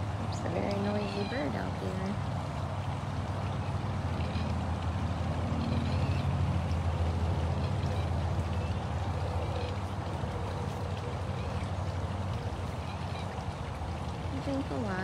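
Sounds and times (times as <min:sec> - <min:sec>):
low mechanical hum: 0:00.0 - 0:15.0
running water: 0:00.0 - 0:15.0.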